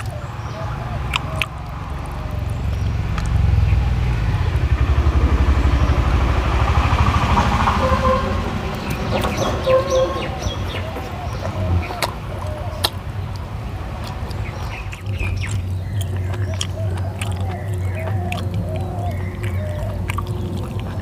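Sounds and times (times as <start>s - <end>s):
vehicle engine passing: 0.0s - 21.0s.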